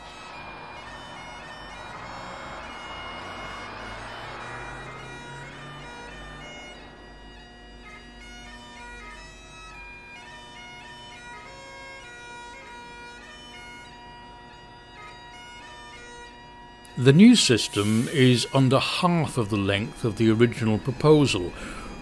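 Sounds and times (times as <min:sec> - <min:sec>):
bagpipes playing a tune: 0:00.0 - 0:22.0.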